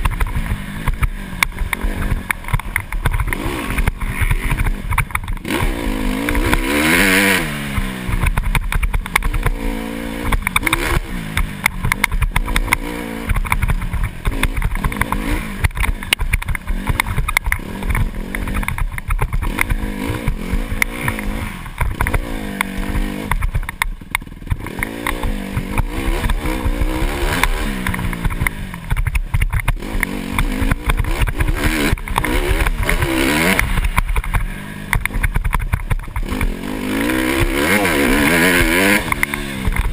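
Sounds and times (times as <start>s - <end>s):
bike knocks and rattles: 0.0s - 39.9s
dirt bike engine revving: 0.0s - 39.9s.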